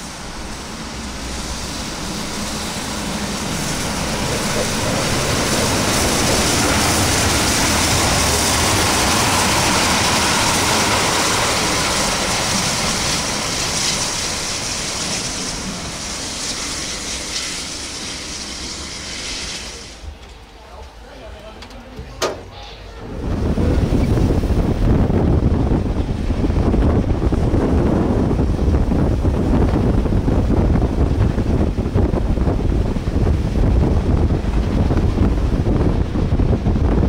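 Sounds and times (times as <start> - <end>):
steam locomotive wheels rumbling: 0.0 - 37.0.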